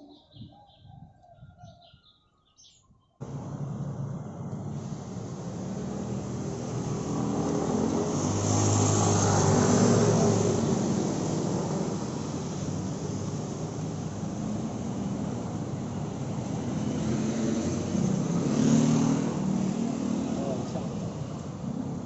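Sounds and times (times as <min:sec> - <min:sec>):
traffic noise: 0:03.2 - 0:22.0
vehicle engine passing by: 0:03.2 - 0:22.0.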